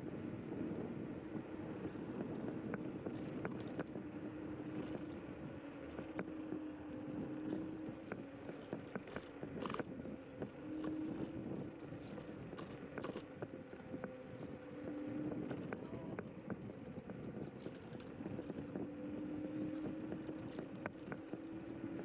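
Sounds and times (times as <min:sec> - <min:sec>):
electric scooter motor hum: 0:00.0 - 0:22.0
tyre and wind rumble: 0:00.0 - 0:22.0.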